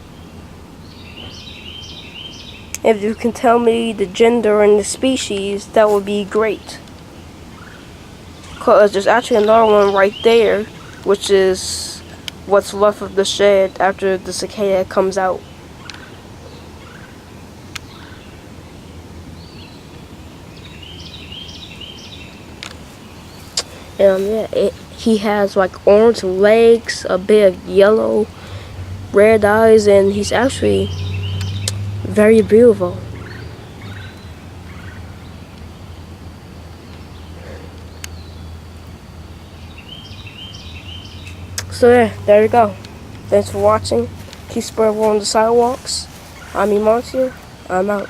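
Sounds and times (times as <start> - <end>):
bird chirps: 0.0 - 3.4, 4.2 - 25.0, 27.7 - 48.0
low background hum: 0.0 - 48.0.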